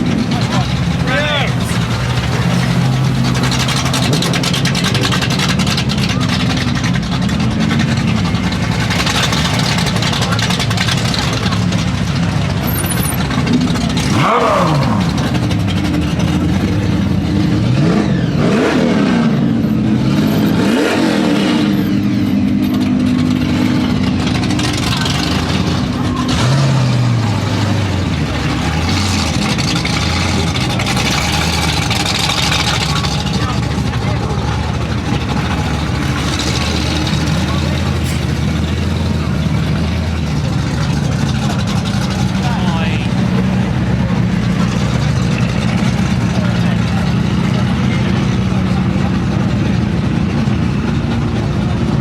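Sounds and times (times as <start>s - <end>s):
sports car engines accelerating: 0.0s - 52.0s.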